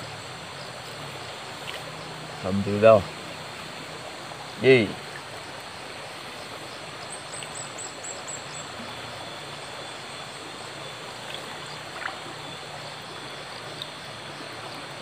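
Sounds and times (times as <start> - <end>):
forest stream flowing: 0.0 - 15.0.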